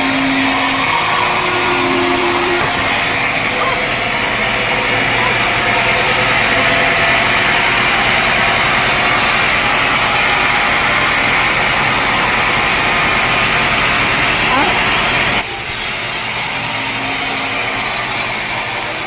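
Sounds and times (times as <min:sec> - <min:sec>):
sawmill machinery humming: 0:00.0 - 0:19.0.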